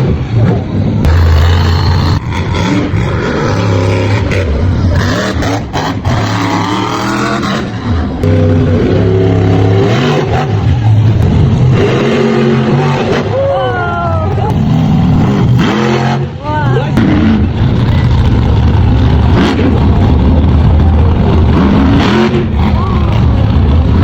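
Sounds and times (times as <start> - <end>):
monster truck engines revving: 0.0 - 24.0.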